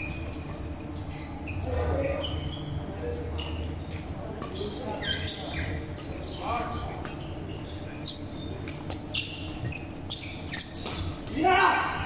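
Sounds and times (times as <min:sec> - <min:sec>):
shoes squeaking on wooden floor: 0:00.0 - 0:12.0
steady low hum: 0:00.0 - 0:12.0.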